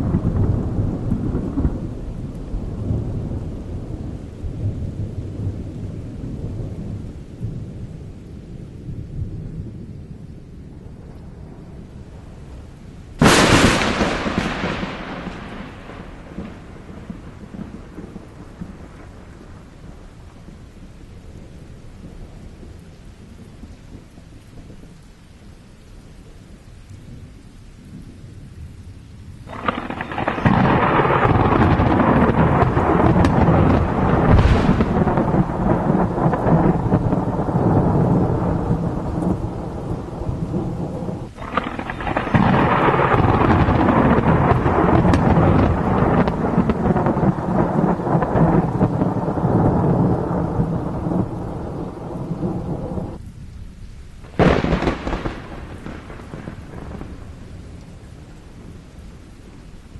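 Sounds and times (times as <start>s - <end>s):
rolling thunder: 0.0s - 22.8s, 29.4s - 53.3s, 54.2s - 59.9s
rain: 0.0s - 59.9s.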